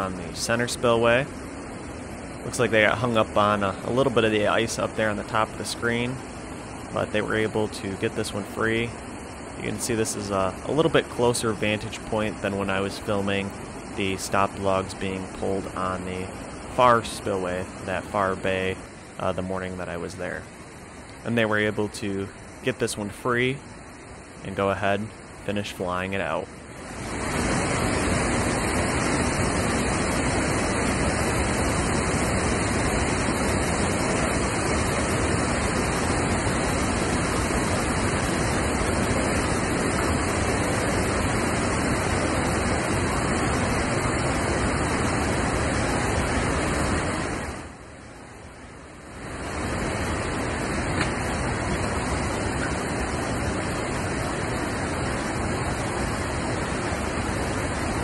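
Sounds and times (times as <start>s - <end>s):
water rushing through spillway: 0.0s - 58.0s.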